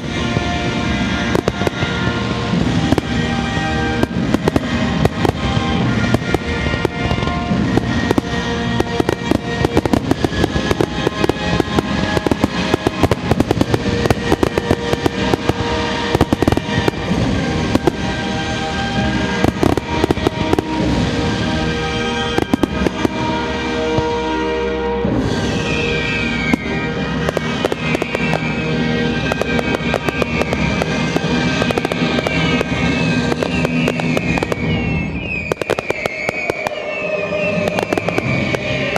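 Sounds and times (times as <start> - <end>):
fireworks bursting and crackling: 0.0 - 38.9
music with long held notes: 0.0 - 38.9.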